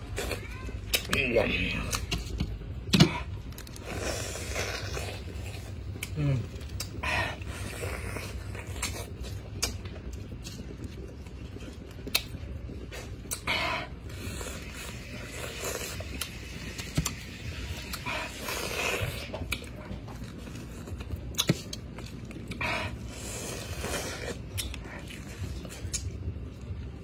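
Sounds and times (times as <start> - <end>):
person biting and chewing fruit: 0.0 - 27.0.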